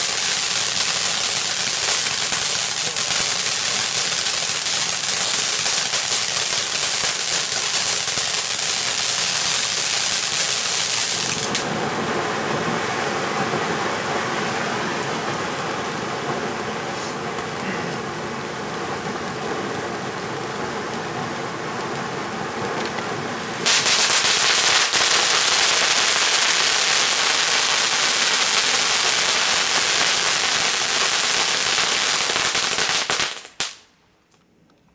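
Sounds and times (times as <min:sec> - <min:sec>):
firework fountain hissing: 0:00.0 - 0:33.8
dense firework crackling: 0:00.0 - 0:33.9.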